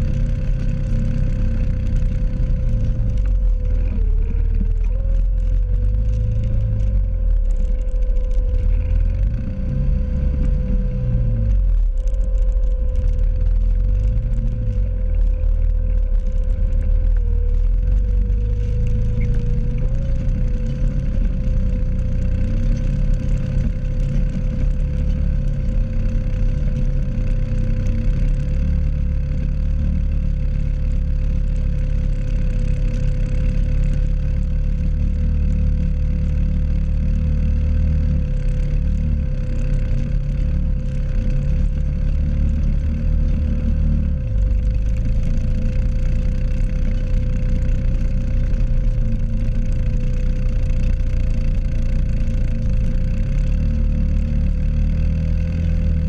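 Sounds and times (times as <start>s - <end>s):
high whine: 0.0s - 53.0s
atv engine running: 0.0s - 56.0s.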